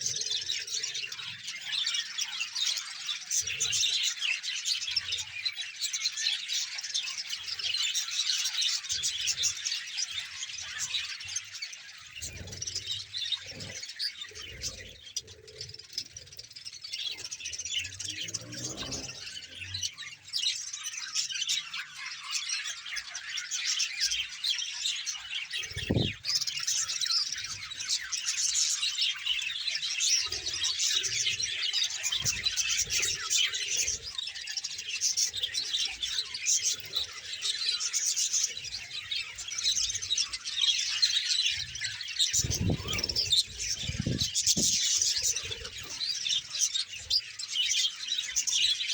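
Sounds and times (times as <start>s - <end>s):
flock of budgerigars chattering: 0.0s - 48.9s.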